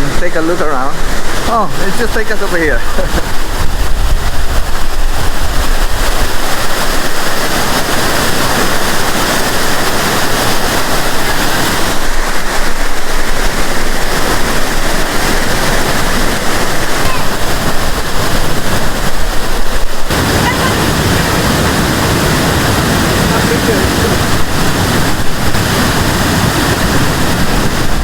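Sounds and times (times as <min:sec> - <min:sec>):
low rumble: 0:00.0 - 0:28.0
waterfall rushing: 0:00.0 - 0:28.0.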